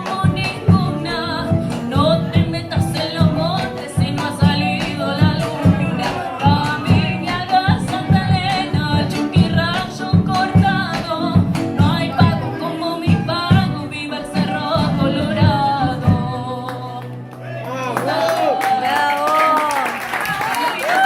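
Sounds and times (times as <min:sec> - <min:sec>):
person singing: 0:00.0 - 0:17.3
strummed guitar: 0:00.0 - 0:17.4.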